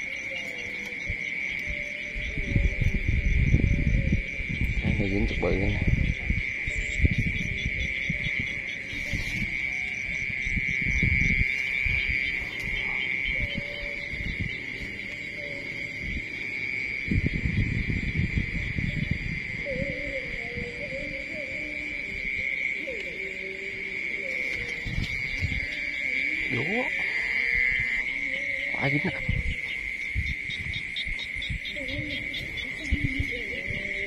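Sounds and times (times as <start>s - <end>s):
night insects chirping: 0.0s - 34.0s.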